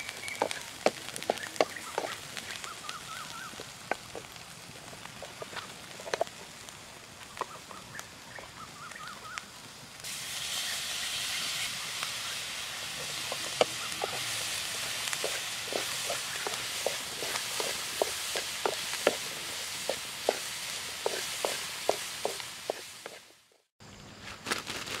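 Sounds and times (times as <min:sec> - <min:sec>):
crackling pops: 0:00.0 - 0:10.2, 0:11.4 - 0:23.3
meat sizzling in a wok: 0:00.0 - 0:23.7
loud sizzling hiss: 0:00.0 - 0:24.1.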